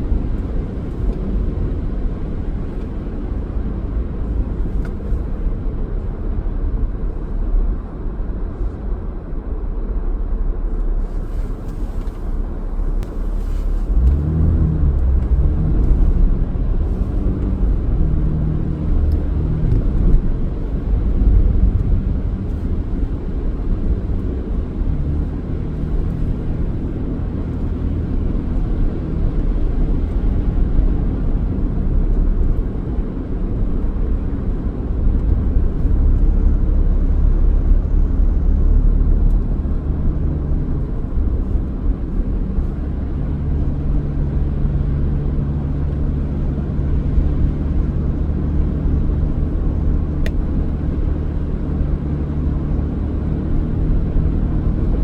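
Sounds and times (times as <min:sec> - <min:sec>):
car road and engine rumble: 0:00.0 - 0:55.0
deeper pitched engine hum: 0:00.0 - 0:55.0.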